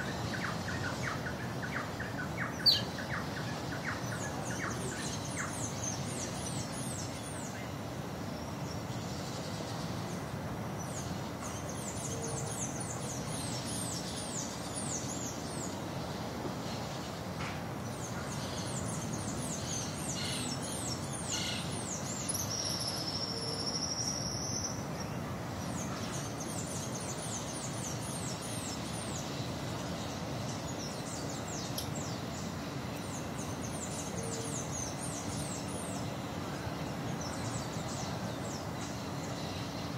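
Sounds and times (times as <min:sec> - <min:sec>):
steady background noise: 0:00.0 - 0:39.9.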